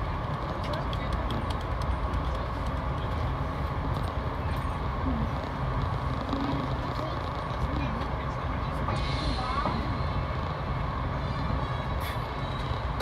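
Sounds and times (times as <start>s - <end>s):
train coach rumble and rail noise: 0.0s - 13.0s.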